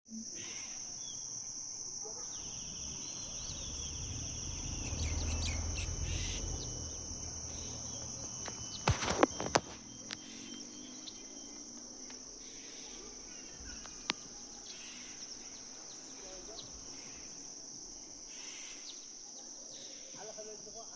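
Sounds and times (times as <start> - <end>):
insects droning: 0.1 - 20.9.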